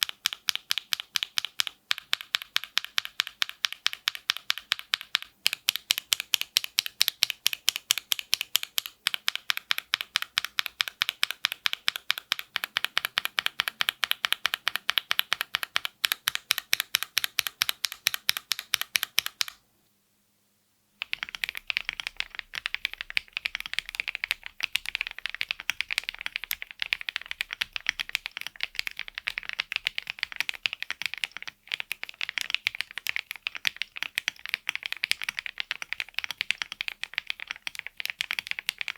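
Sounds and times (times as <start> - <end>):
typing on mechanical keyboard: 0.0 - 19.6, 21.0 - 38.9.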